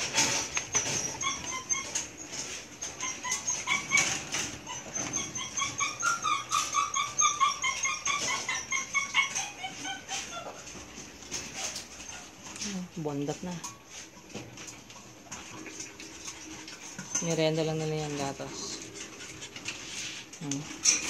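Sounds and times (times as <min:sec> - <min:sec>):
puppies whining and squeaking: 0:00.0 - 0:21.0.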